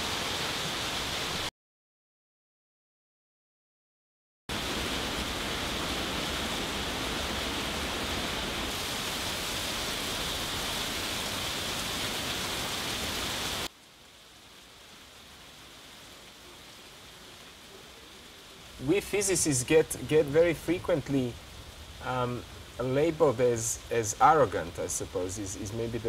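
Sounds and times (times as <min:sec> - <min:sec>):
heavy rain pouring: 0:00.0 - 0:01.5, 0:04.5 - 0:26.0.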